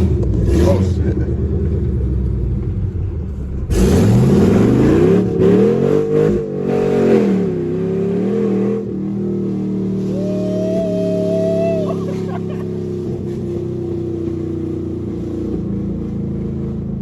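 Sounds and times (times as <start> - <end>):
low exhaust rumble: 0.0 - 6.6, 8.8 - 17.0
car engine revving: 0.0 - 17.0.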